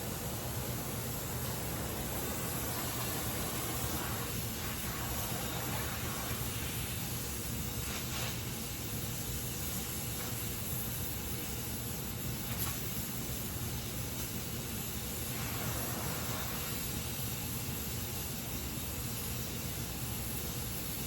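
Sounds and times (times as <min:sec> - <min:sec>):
welding torch flame hissing: 0:00.0 - 0:21.0.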